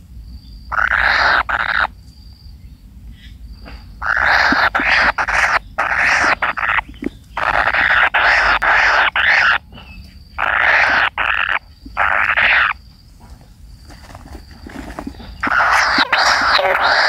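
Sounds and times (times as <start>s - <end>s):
kingfisher chicks rasping calls: 0.7s - 1.9s, 3.6s - 12.9s, 13.7s - 17.0s.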